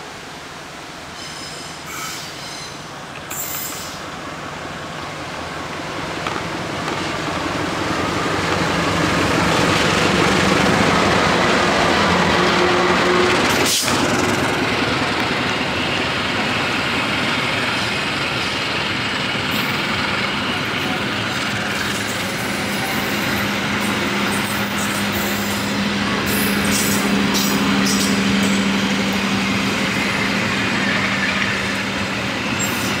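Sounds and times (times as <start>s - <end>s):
passenger train passing: 0.0s - 33.0s.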